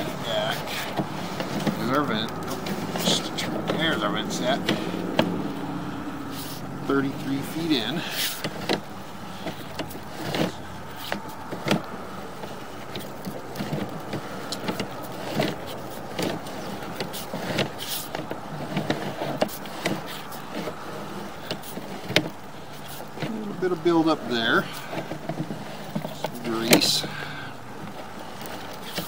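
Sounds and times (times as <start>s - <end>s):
cable rattling onto reel: 0.0s - 29.0s.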